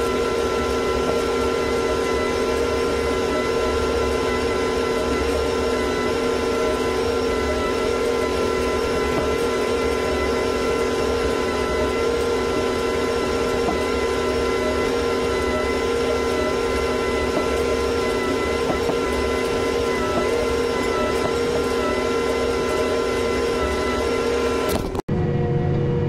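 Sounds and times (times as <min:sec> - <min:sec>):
steady whine: 0:00.0 - 0:26.0.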